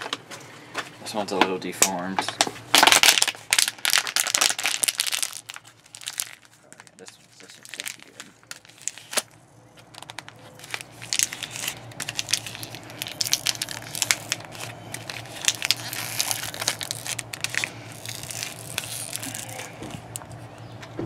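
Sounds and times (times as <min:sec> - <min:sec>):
plastic bottle crinkling: 0:01.8 - 0:20.4.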